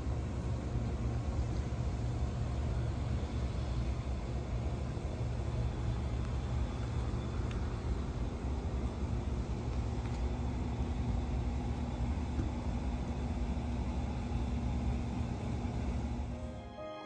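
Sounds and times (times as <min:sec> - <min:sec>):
low outdoor rumble: 0:00.0 - 0:16.8
faint steady hum: 0:00.0 - 0:17.0.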